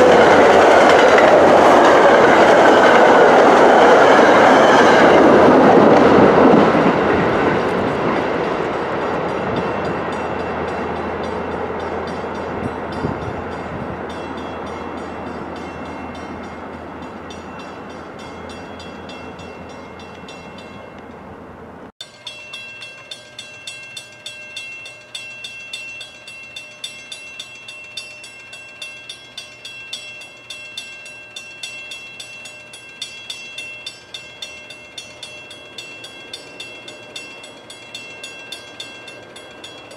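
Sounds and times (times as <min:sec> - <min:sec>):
grade-crossing bell ringing: 0:00.0 - 0:21.3, 0:22.0 - 0:39.9
train rumble and wheel noise: 0:00.0 - 0:39.9.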